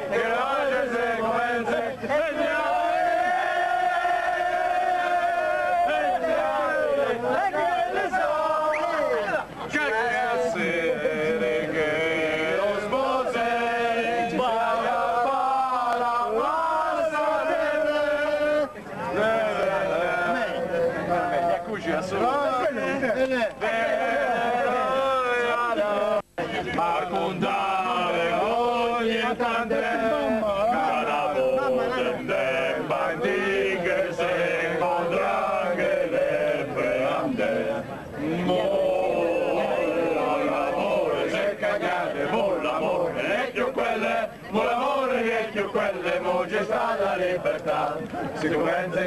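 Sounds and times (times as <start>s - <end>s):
group of people singing in chorus: 0.0s - 49.0s.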